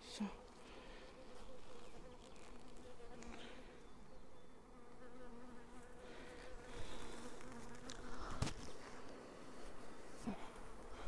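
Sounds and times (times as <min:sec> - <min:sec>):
honeybees buzzing: 0:00.2 - 0:11.0.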